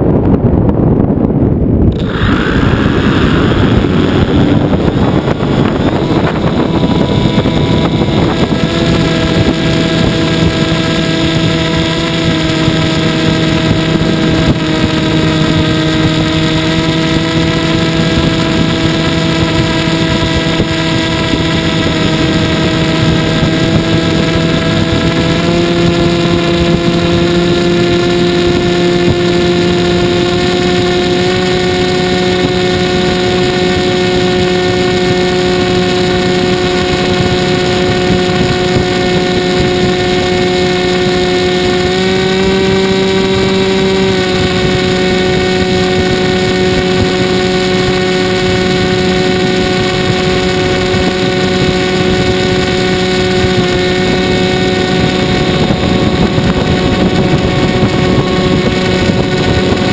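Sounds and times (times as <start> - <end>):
model airplane motor buzzing: 0.0 - 59.9
wind rush on microphone: 0.0 - 59.9.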